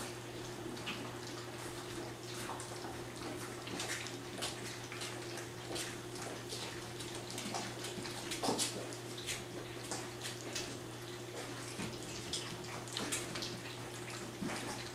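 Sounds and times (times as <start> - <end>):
puppies lapping and slurping: 0.0 - 14.9
steady low hum: 0.0 - 14.9.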